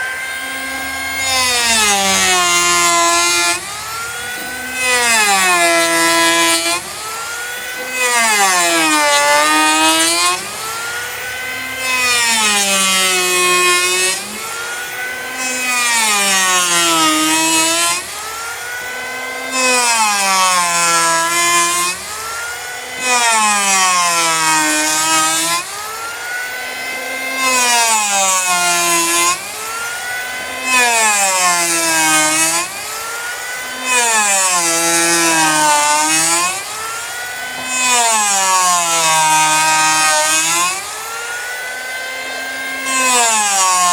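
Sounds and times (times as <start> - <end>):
power planer motor whine: 0.0 - 43.9.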